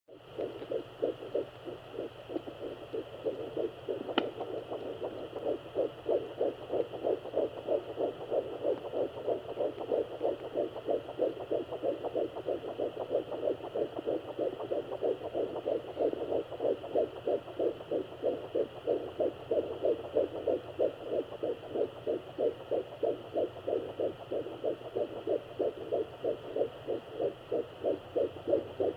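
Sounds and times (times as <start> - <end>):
fetal heartbeat whooshing pulse: 0.1 - 28.9
steady hum: 0.1 - 28.9.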